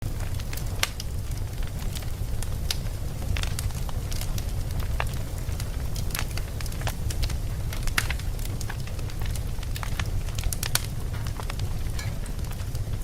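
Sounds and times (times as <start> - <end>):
flames rumbling: 0.0 - 13.0
logs crackling and popping: 0.0 - 13.0.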